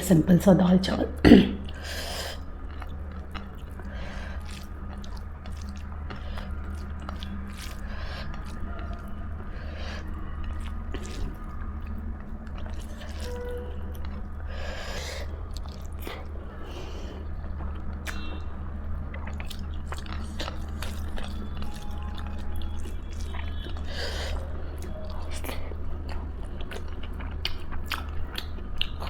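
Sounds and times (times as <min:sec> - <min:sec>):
wet chewing mouth sounds: 0:01.6 - 0:29.0.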